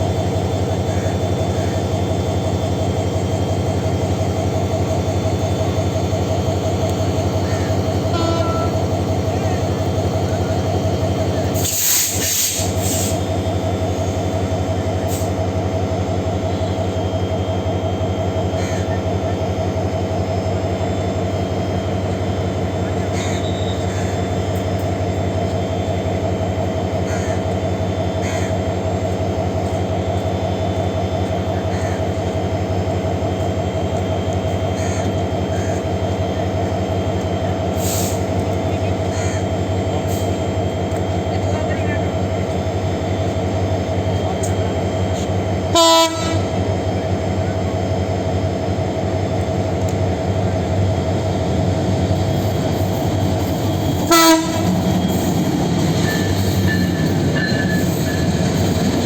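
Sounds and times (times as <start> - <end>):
train mechanical drone: 0.0 - 59.0.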